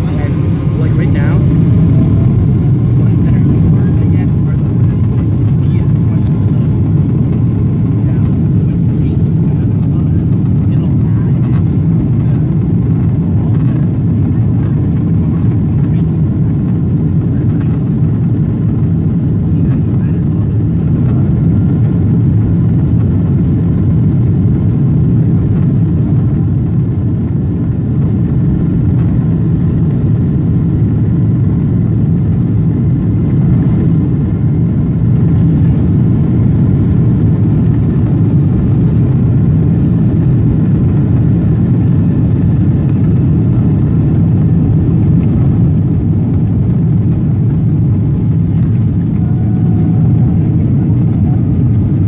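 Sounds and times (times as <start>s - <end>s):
faint engine tones: 0.0s - 52.0s
jet engines deep rumble: 0.0s - 52.0s.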